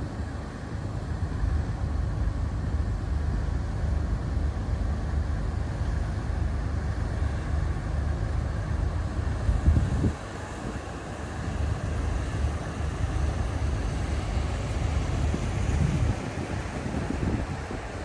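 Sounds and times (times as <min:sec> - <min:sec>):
ship engine low rumble: 0:00.0 - 0:18.0.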